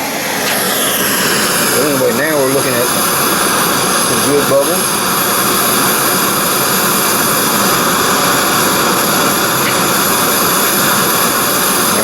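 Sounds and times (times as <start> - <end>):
gas burner roaring: 0.0 - 12.0
water boiling: 0.0 - 12.0.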